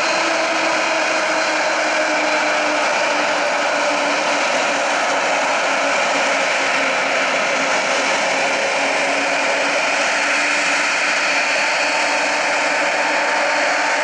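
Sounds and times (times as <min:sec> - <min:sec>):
jet engines whining: 0:00.0 - 0:14.0.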